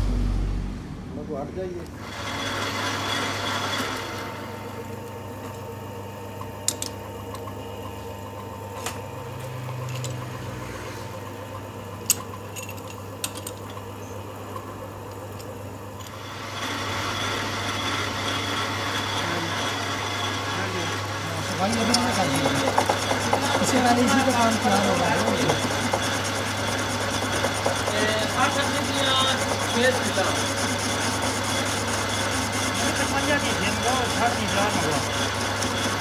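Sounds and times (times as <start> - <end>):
motor hum: 0.0 - 36.0
metal lathe spinning: 1.8 - 36.0.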